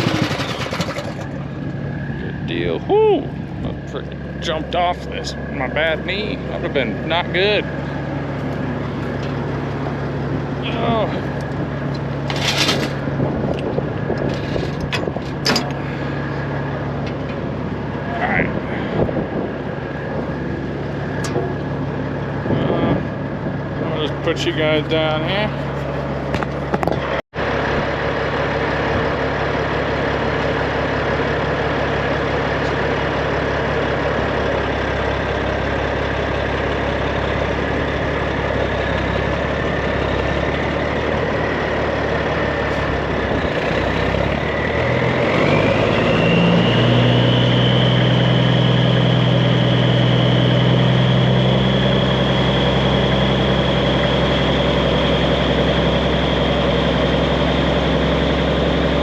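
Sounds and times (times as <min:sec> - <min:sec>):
diesel truck engine idling: 0:00.0 - 0:59.0
engine whine: 0:00.0 - 0:59.0.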